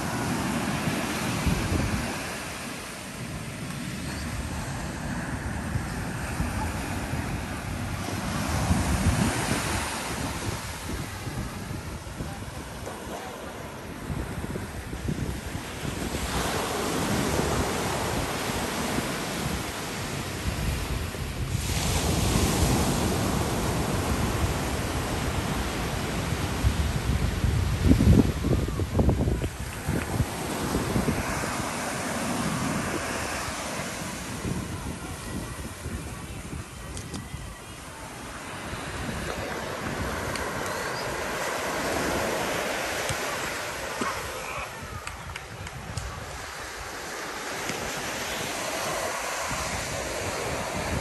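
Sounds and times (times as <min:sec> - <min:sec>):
surf waves breaking on beach: 0:00.0 - 0:51.0
wind buffeting microphone: 0:00.0 - 0:51.0.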